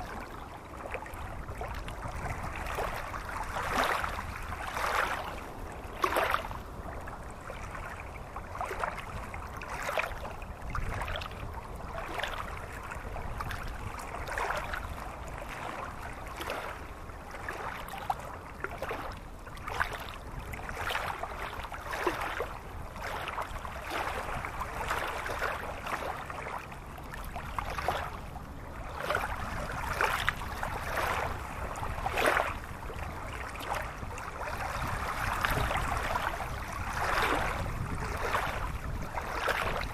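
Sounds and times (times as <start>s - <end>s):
stream splashing and gurgling: 0.0s - 39.9s
water low rumble: 0.0s - 39.9s.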